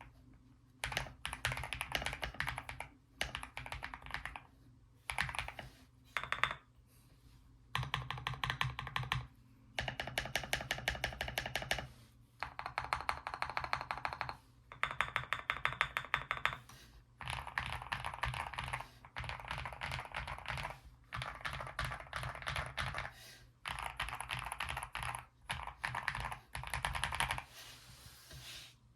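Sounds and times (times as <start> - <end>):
fast mechanical keyboard typing: 0.8 - 4.4, 5.1 - 6.6, 7.7 - 27.5.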